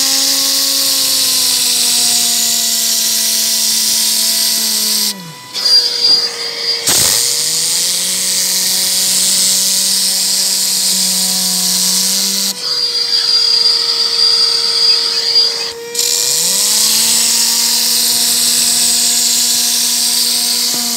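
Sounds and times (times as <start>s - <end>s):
air gun hissing and buzzing: 0.0s - 20.9s.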